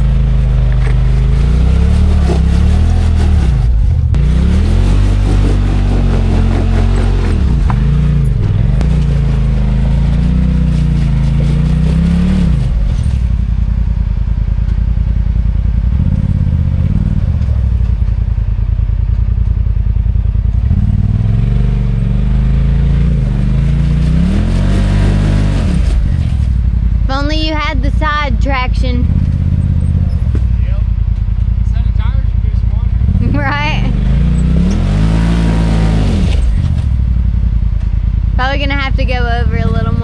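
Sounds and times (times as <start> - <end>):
utility vehicle engine under load: 0.0 - 40.0.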